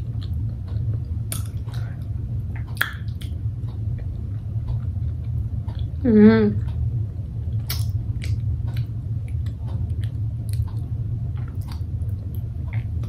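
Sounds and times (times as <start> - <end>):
wet chewing clicks and squishes: 0.0 - 6.0, 7.5 - 13.0
steady low hum: 0.0 - 13.0.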